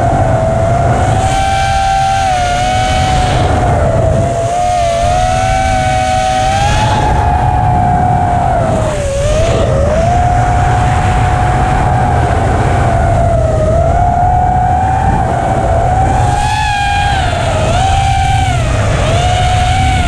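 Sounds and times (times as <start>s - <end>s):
drone motors whining: 0.0s - 20.0s
wind rush on microphone: 0.0s - 20.0s.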